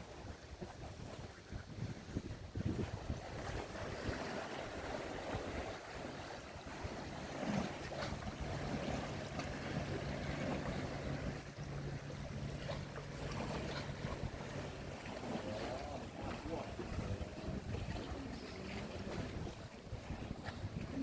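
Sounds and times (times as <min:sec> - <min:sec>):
boat engine humming: 0:00.0 - 0:21.0
water rushing: 0:00.0 - 0:21.0
wind buffeting microphone: 0:00.0 - 0:21.0.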